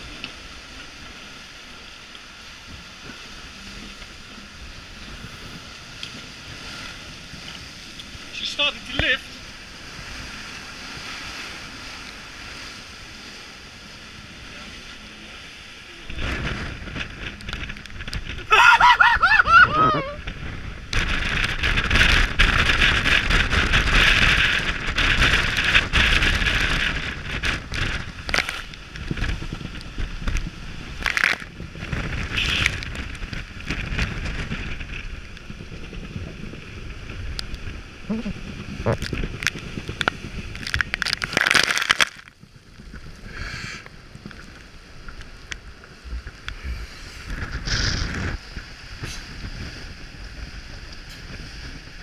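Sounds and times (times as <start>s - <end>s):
water rushing past hull: 0.0s - 52.0s
wind noise: 0.0s - 52.0s.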